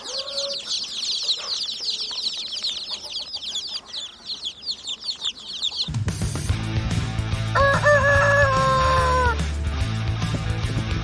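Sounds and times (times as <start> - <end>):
chicks peeping: 0.0 - 9.4.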